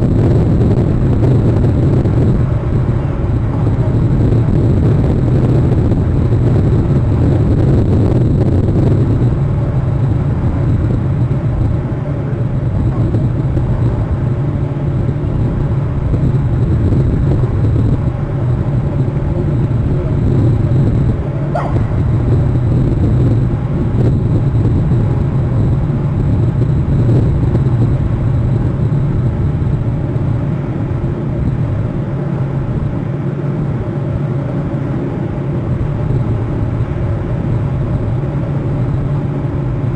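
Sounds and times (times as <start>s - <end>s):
high-pitched electrical whine: 0.0s - 39.9s
low outdoor rumbling: 0.0s - 39.9s.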